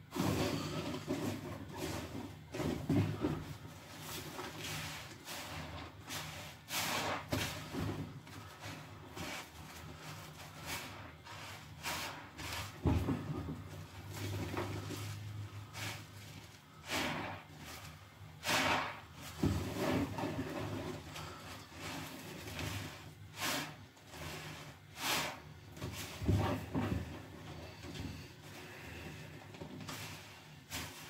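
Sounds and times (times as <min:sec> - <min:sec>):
sponges squelching in soapy water: 0:00.1 - 0:31.0.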